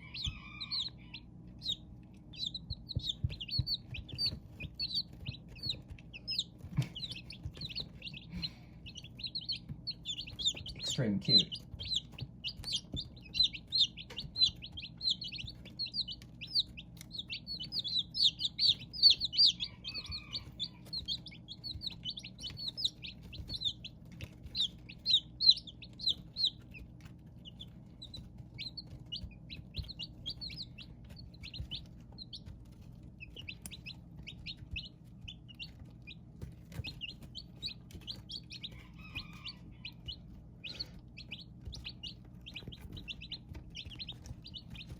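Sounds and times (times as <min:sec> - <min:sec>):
chicks peeping: 0:00.0 - 0:44.9
steady low hum: 0:00.0 - 0:44.9.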